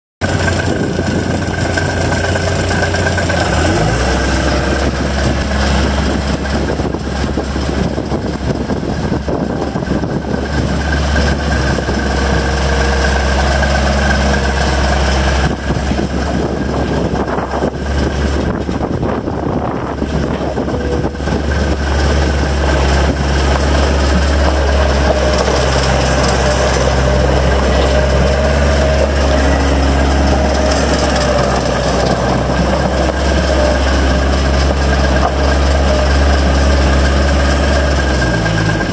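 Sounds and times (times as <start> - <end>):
diesel engine running: 0.2 - 38.9
high whine: 0.2 - 38.9.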